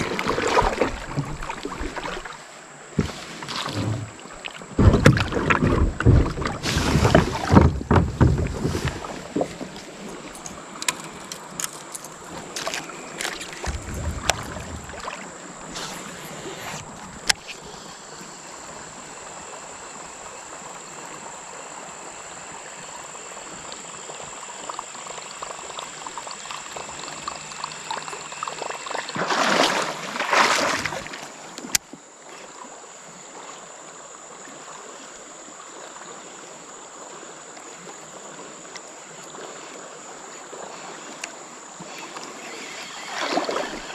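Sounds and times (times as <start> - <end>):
running water: 0.0 - 43.9
water splashing around kayak: 0.0 - 43.9.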